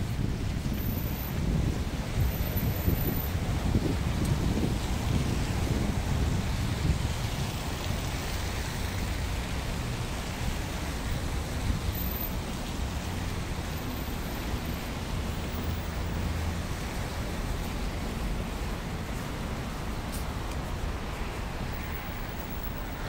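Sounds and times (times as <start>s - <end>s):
cars driving on slushy road: 0.0s - 23.0s.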